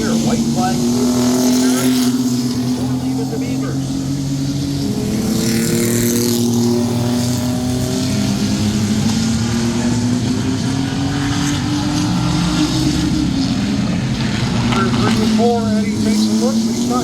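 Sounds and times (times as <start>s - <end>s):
race truck engines running: 0.0s - 17.0s.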